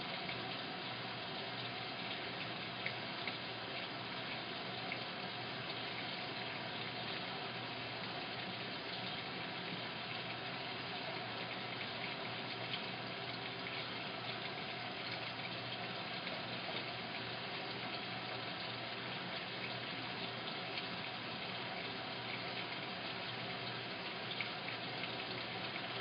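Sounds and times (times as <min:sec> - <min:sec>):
water rushing into washing machine: 0:00.0 - 0:26.0.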